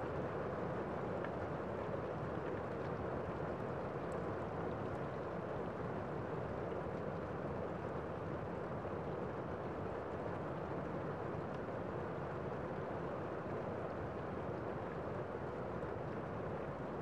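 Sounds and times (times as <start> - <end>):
rain on a window: 0.0 - 17.0.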